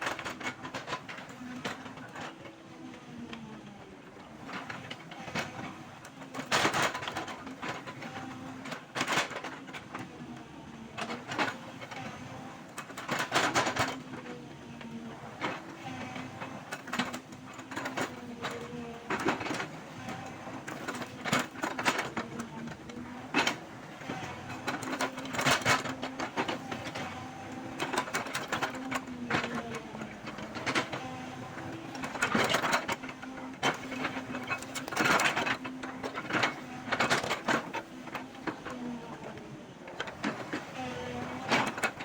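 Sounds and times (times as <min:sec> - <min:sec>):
excavator engine and hydraulics hum: 0:00.0 - 0:42.0.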